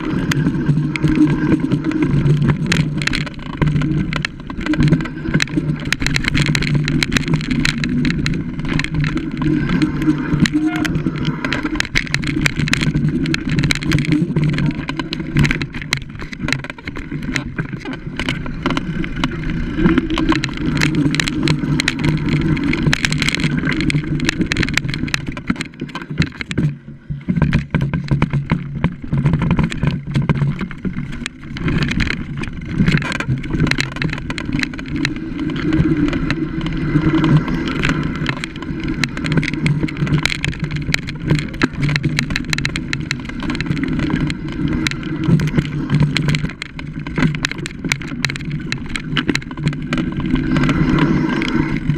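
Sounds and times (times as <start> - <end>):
bike clattering over bumps: 0.0 - 51.9
tyre noise: 0.0 - 51.9
wind rumble on microphone: 0.0 - 51.9.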